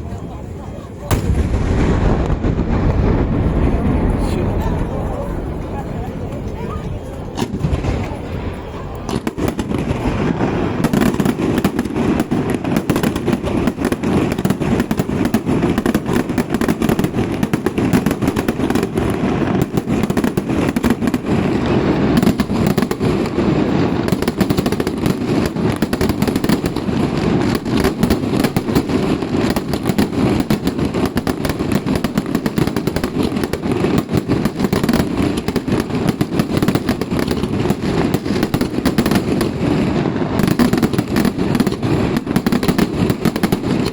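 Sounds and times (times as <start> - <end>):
rapid firecracker bangs: 1.1 - 6.6, 7.3 - 43.9.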